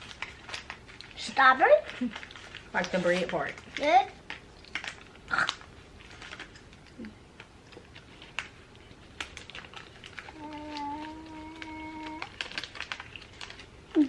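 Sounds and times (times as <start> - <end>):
pastry crunching being chewed: 0.0 - 14.0.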